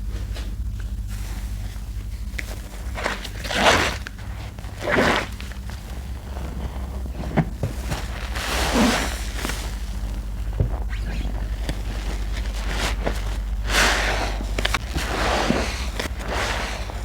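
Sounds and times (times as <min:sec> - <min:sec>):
sponge squelching in soap paste: 0:00.0 - 0:17.0
steady low hum: 0:00.0 - 0:17.0.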